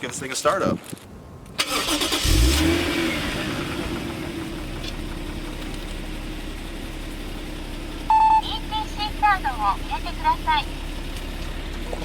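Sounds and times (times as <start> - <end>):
car engine starting and idling: 1.5 - 12.0.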